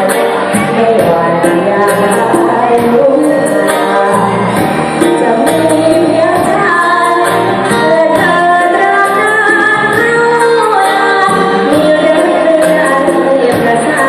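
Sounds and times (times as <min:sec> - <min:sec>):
band accompaniment: 0:00.0 - 0:14.0
person singing: 0:00.0 - 0:14.0.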